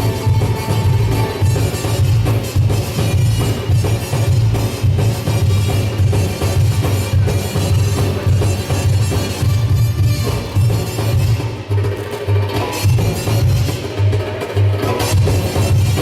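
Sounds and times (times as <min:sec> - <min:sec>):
music with heavy drum beat: 0:00.0 - 0:16.0.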